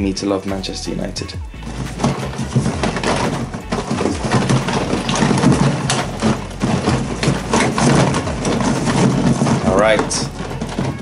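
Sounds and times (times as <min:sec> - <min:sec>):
plastic packs clattering in a box: 0:01.6 - 0:11.0.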